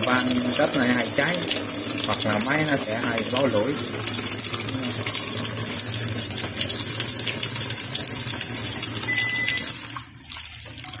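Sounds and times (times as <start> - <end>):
water gushing into washing machine: 0.0 - 11.0.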